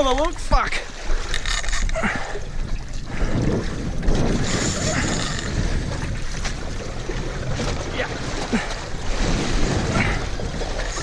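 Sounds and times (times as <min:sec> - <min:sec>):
water washing against hull: 0:00.0 - 0:11.0
wind buffeting microphone: 0:00.0 - 0:11.0.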